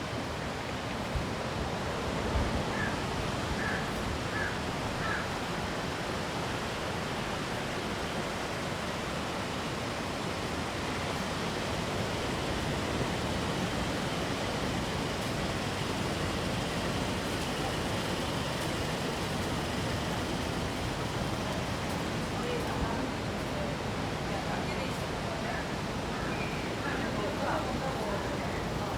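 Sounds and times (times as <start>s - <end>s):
wind: 0.0s - 28.9s
rough surf: 1.0s - 25.0s.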